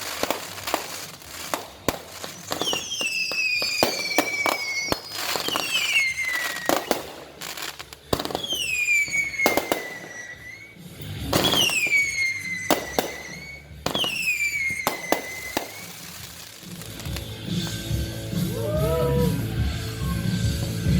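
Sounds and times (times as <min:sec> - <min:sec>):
fireworks bangs and crackles: 0:00.0 - 0:20.9
fireworks whistling: 0:00.0 - 0:20.9.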